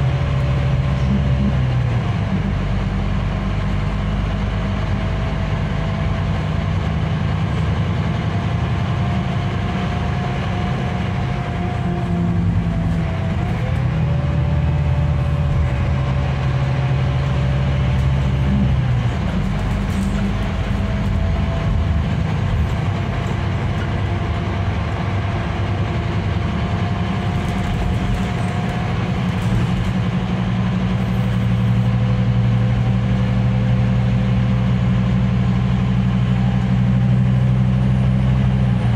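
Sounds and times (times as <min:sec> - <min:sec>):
diesel engine drone: 0:00.0 - 0:38.9.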